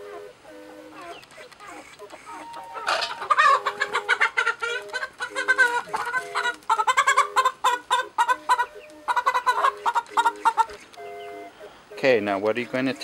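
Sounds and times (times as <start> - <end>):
hen squawking: 0.0 - 13.0.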